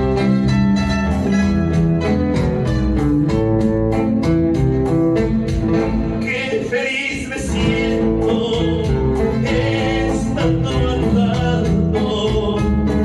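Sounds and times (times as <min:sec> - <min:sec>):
bass line: 0:00.0 - 0:13.0
plucked guitar notes: 0:00.0 - 0:13.0.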